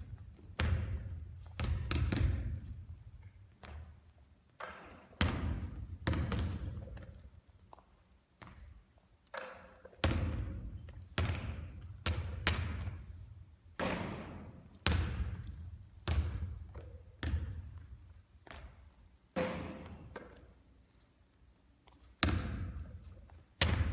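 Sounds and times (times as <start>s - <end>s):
basketball bouncing with echo: 0.0s - 7.4s, 8.4s - 20.5s, 22.1s - 23.9s.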